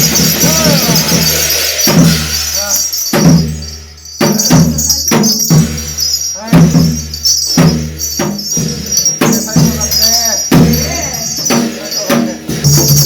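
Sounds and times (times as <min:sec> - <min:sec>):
drum strikes: 0:00.0 - 0:13.0
jingling metal percussion: 0:00.0 - 0:13.0.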